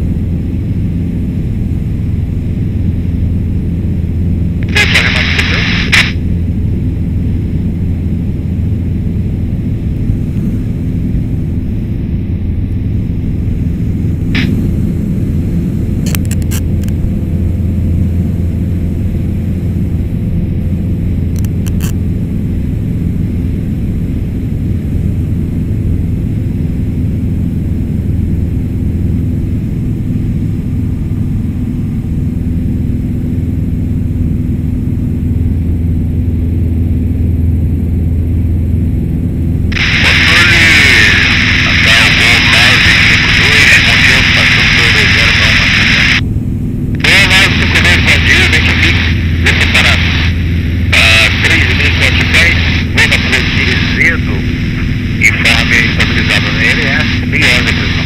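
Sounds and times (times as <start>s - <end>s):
aircraft engine droning: 0.0s - 58.0s.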